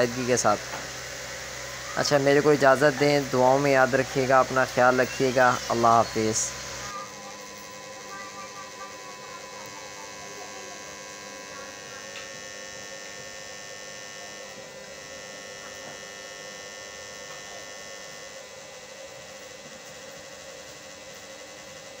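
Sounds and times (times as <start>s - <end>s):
blower fan humming: 0.0s - 22.0s.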